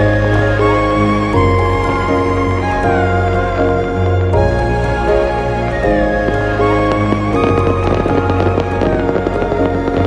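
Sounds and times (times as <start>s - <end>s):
slow music of held chords: 0.0s - 10.0s.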